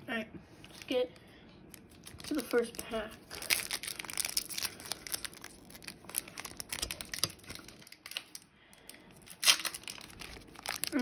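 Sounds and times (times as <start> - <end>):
foil wrapper crinkling: 1.7 - 11.0.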